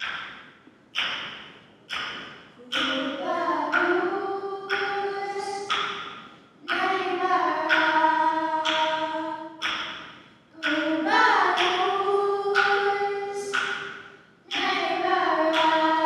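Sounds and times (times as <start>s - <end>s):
young women singing together: 2.6s - 16.0s.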